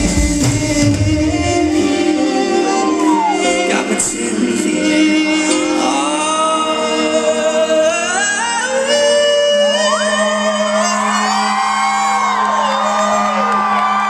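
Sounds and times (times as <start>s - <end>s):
man singing long gliding notes: 0.0s - 13.5s
live pop rock band with keyboard: 0.0s - 14.0s.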